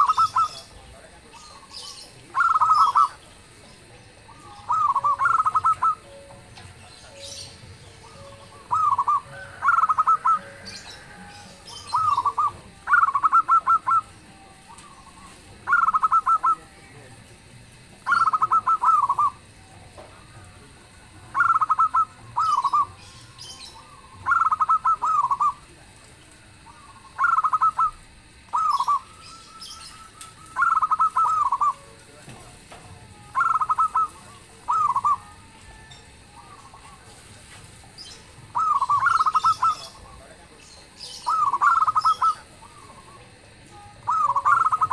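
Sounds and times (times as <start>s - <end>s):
dove cooing: 0.0s - 44.9s
faint high chirps: 0.0s - 44.9s.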